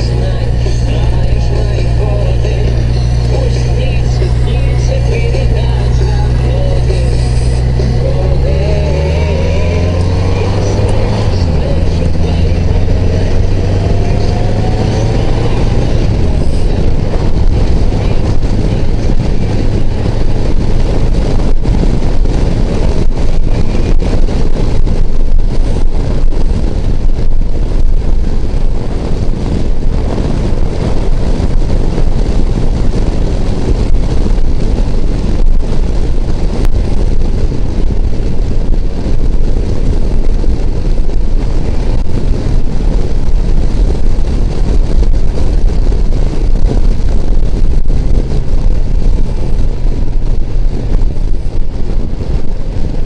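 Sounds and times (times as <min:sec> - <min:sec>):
motorcycle engine drone: 0:00.0 - 0:53.0
wind buffeting microphone: 0:00.0 - 0:53.0.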